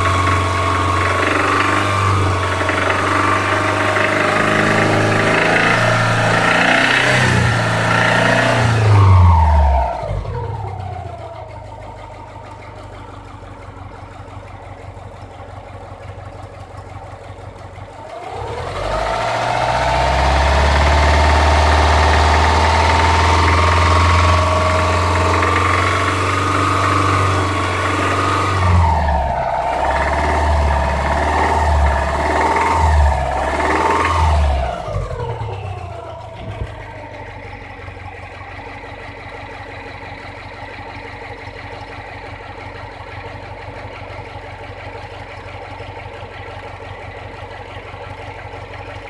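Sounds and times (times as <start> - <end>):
car engine idling and revving: 0.0 - 49.0
engine knock: 0.0 - 49.0.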